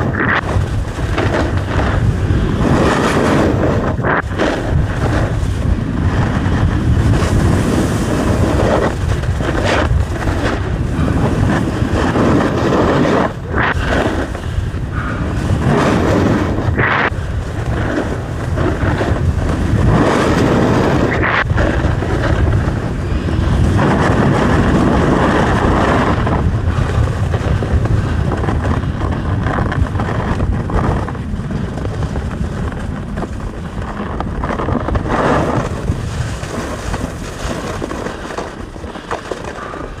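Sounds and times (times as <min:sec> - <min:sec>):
skis scraping icy snow: 0:00.0 - 0:40.0
wind buffeting microphone: 0:00.0 - 0:40.0.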